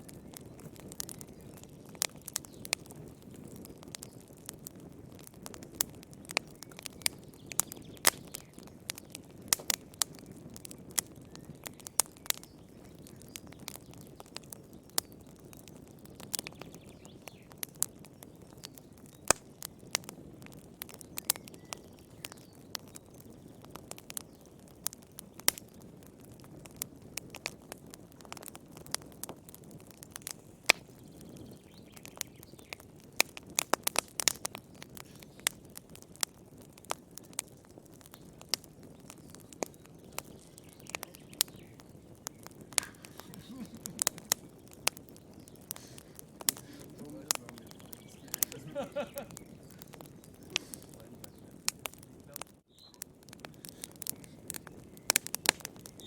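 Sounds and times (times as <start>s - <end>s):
low rumble of flame: 0.0s - 56.0s
wood fire crackling and popping: 0.0s - 56.0s.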